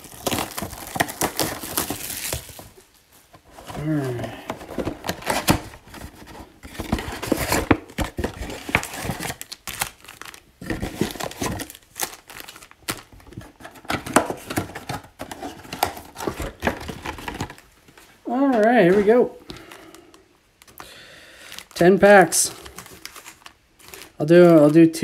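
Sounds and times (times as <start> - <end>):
foil packs crinkling: 0.0 - 25.0.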